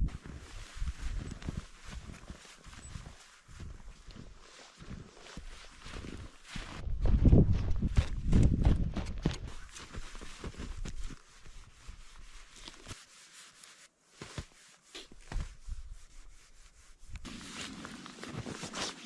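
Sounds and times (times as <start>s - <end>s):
crunching and scraping in snow: 0.0s - 19.0s.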